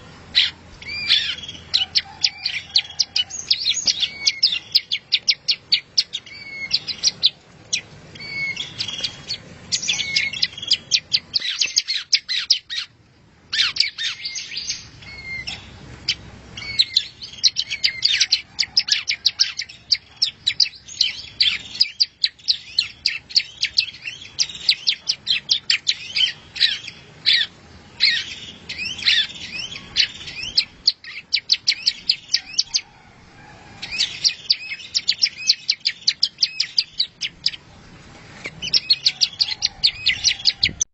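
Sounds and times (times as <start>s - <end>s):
songbird chirping and twittering: 0.0s - 40.9s.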